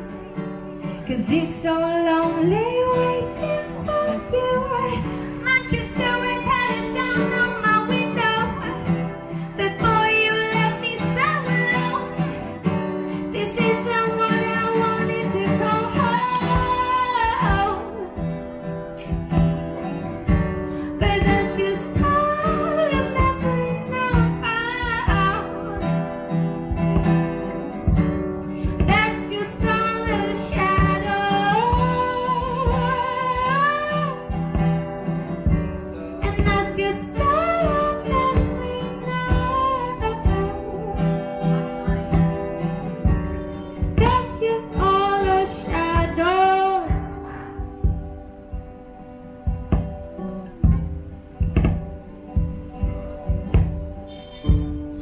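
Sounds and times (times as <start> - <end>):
strummed acoustic guitar: 0.0 - 55.0
woman singing: 0.4 - 27.0, 27.8 - 48.2.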